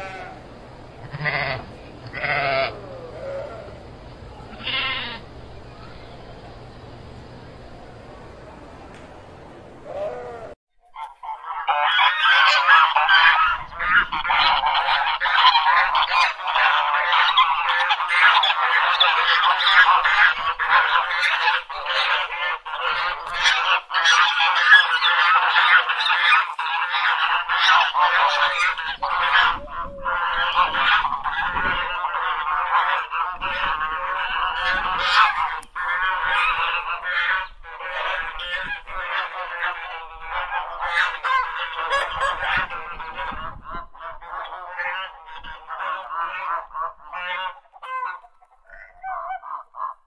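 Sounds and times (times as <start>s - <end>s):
flock of waterfowl calling: 0.0s - 50.0s
geese honking: 0.0s - 50.0s.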